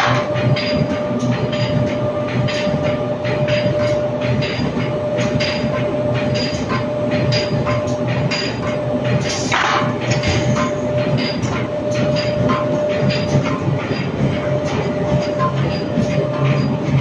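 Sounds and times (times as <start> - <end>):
machine hum: 0.0 - 17.0
rapid mechanical clacks: 0.0 - 17.0.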